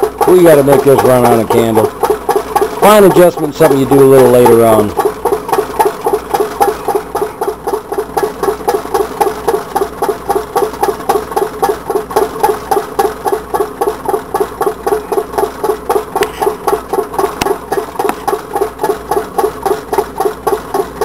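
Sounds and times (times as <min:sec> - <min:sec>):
stirling engine knocking: 0:00.0 - 0:21.0.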